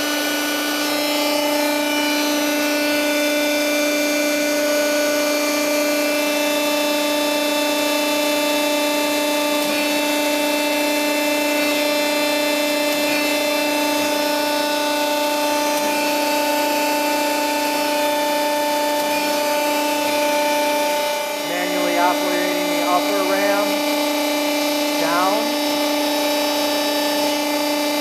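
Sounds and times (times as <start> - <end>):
hydraulic pump whining: 0.0 - 28.0.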